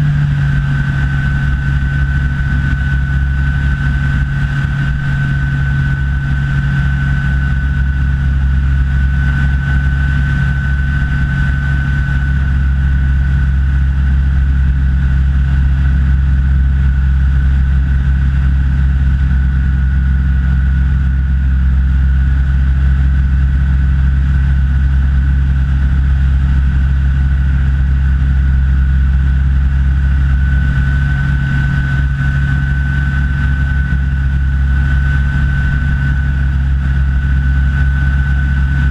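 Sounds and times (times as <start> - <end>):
high whine: 0.0 - 38.9
light aircraft engine drone: 0.0 - 38.9.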